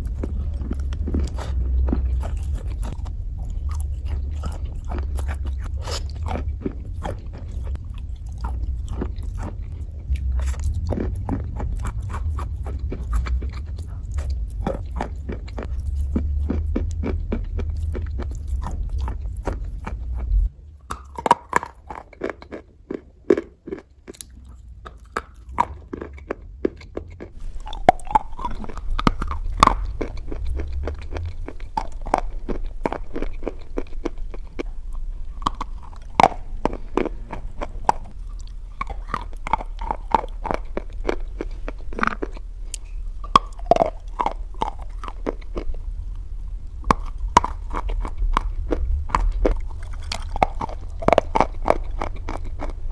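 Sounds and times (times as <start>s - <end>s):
crunching and chewing: 0.0s - 52.9s
steady low hum: 0.0s - 52.9s.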